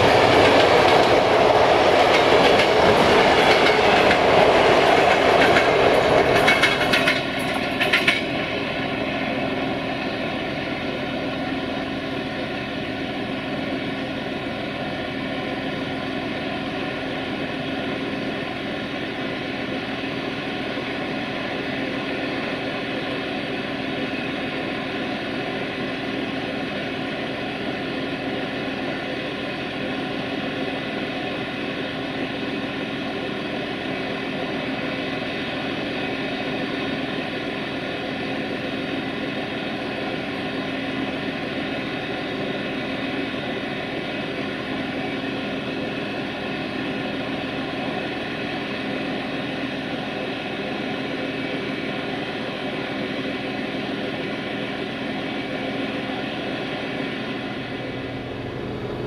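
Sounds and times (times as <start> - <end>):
diesel railway engine idling: 0.0 - 59.0.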